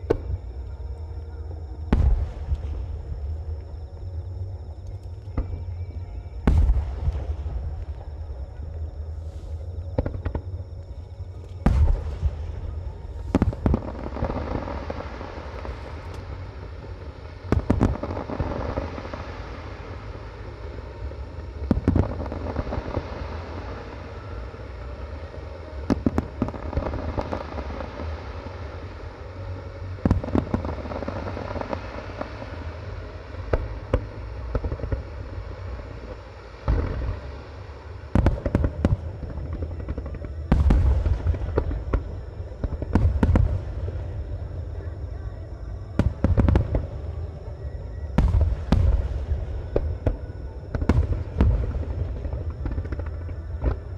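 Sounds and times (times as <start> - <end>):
fireworks crackling and rumbling: 0.0 - 53.9.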